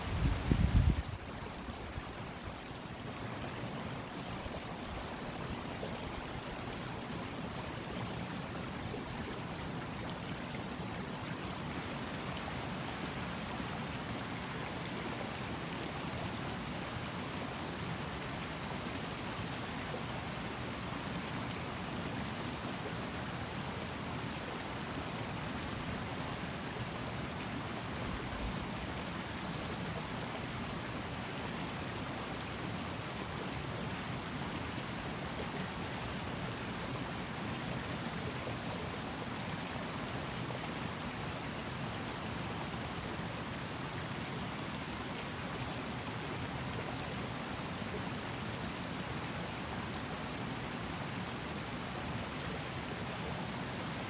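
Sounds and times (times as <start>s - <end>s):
mountain river flowing: 0.0s - 54.0s.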